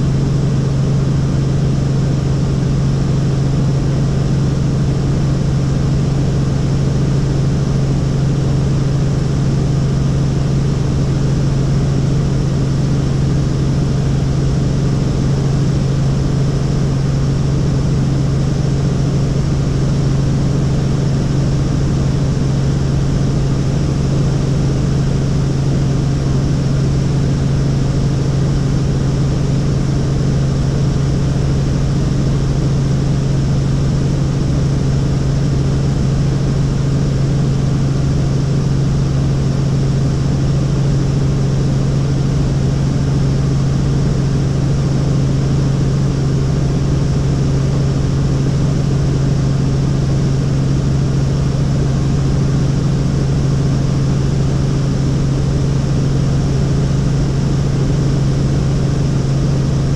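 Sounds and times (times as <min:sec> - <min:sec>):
helicopter rotor and engine: 0:00.0 - 0:59.9.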